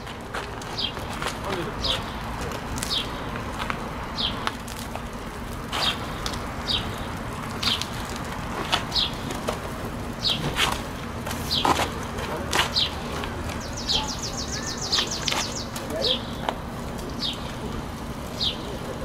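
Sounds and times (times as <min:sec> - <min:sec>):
small birds chirping: 0:00.0 - 0:10.8, 0:11.4 - 0:19.0.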